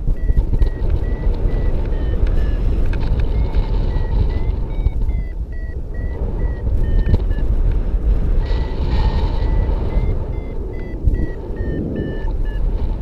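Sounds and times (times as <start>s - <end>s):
variometer beeps: 0.0s - 7.6s, 8.4s - 13.0s
wind rumble on microphone: 0.0s - 13.0s.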